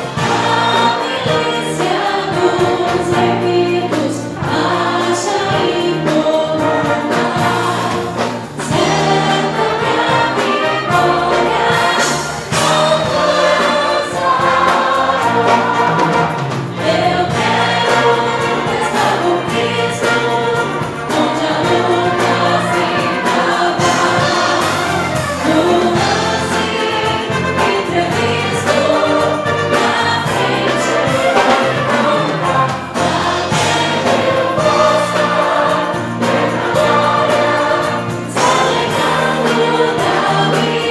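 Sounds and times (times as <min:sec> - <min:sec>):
choir singing gospel: 0:00.0 - 0:40.9
instrumental accompaniment: 0:00.0 - 0:40.9.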